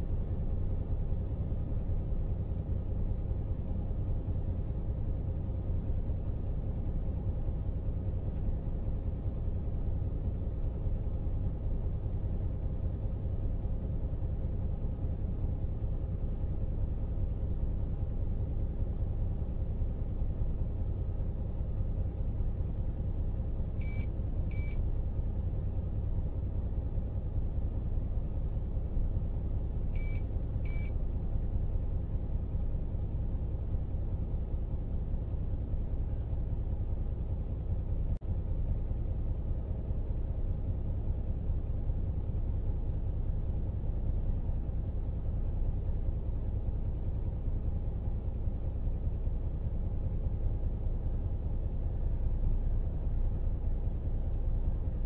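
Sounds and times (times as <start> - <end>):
faint hum: 0.0 - 55.0.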